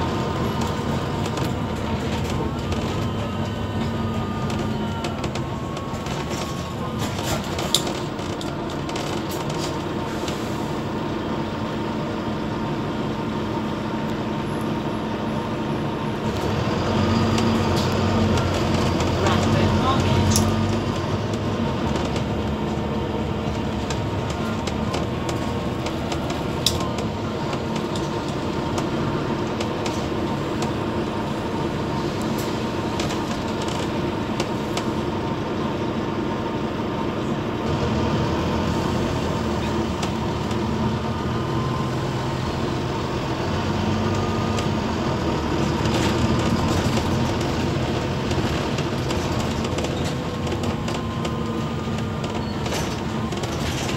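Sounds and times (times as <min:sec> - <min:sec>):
bus diesel engine humming: 0:00.0 - 0:53.9
road noise rumbling: 0:00.0 - 0:53.9.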